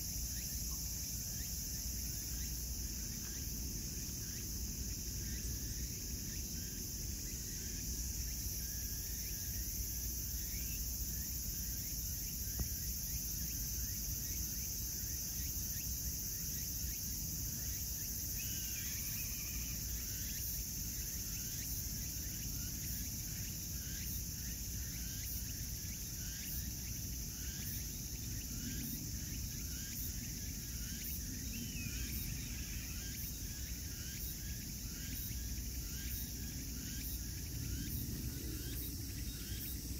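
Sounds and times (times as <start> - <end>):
insect chirps: 0.0 - 39.9
insects buzzing: 0.0 - 39.9.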